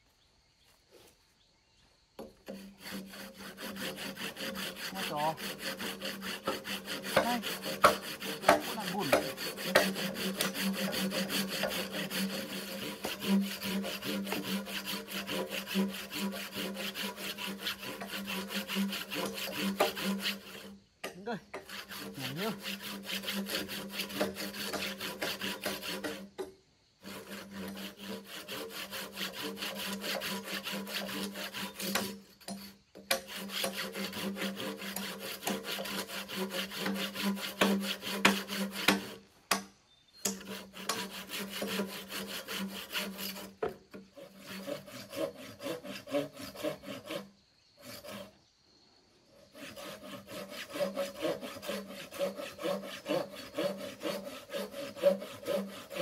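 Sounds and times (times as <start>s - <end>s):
saw cutting through wood: 2.2s - 48.4s, 49.3s - 56.0s.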